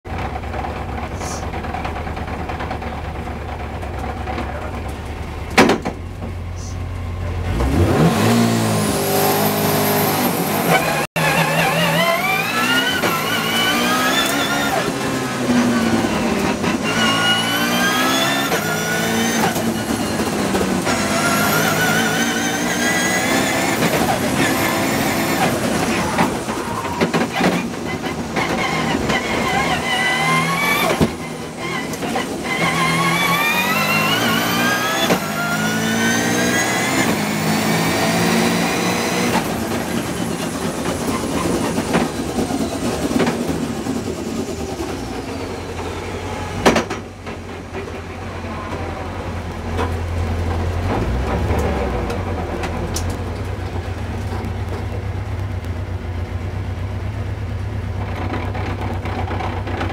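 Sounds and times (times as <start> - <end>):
race car engine revving: 1.0 - 56.3.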